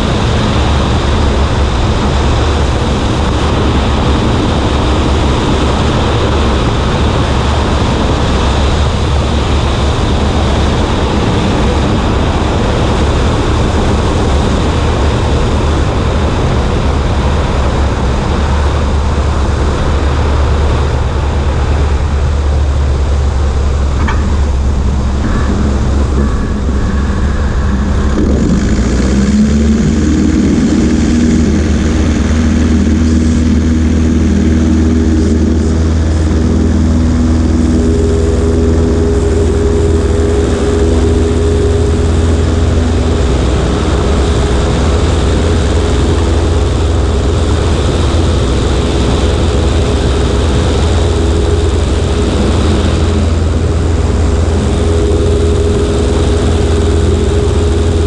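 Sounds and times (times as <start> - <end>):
small plane engine droning: 0.0 - 58.0
wind rush on microphone: 0.0 - 58.0.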